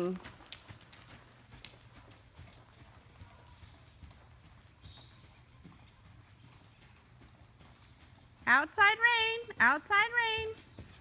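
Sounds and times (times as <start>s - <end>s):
faint hoofbeats on sand: 0.0s - 11.0s.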